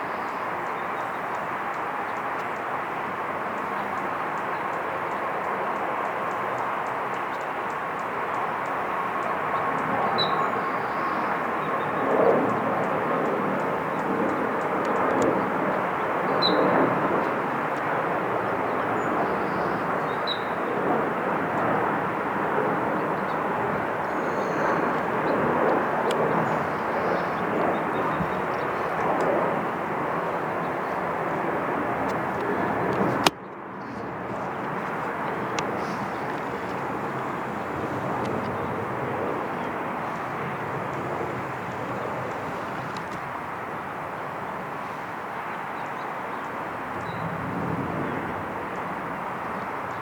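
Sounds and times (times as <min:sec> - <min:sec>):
jet engines rushing: 0:00.0 - 0:50.0.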